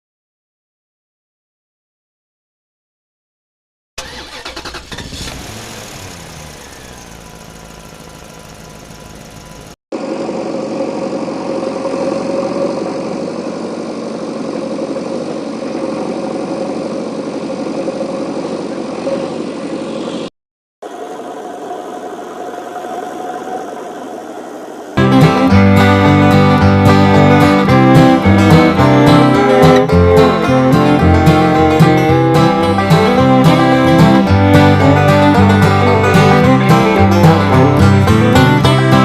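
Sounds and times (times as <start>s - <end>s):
engine running: 4.0s - 39.0s.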